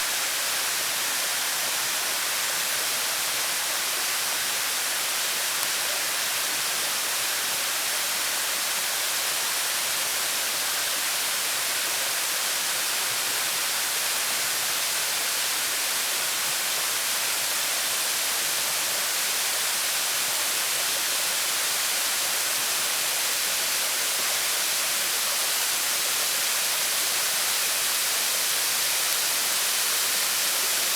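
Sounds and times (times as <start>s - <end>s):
waterfall hissing: 0.0s - 30.9s.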